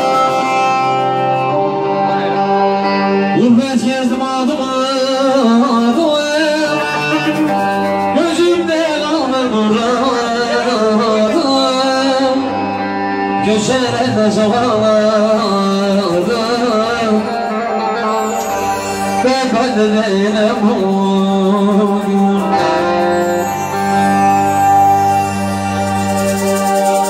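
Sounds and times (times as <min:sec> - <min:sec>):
man singing into a microphone: 0:00.0 - 0:24.8
sustained electronic keyboard: 0:00.0 - 0:27.0.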